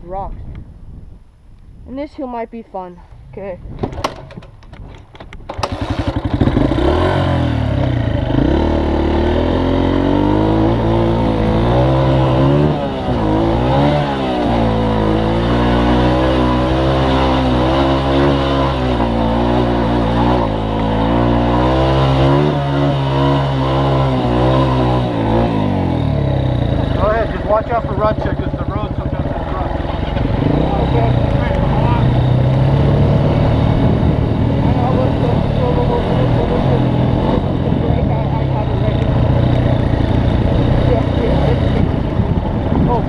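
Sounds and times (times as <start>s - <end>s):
off-road vehicle engine revving: 5.5s - 43.0s.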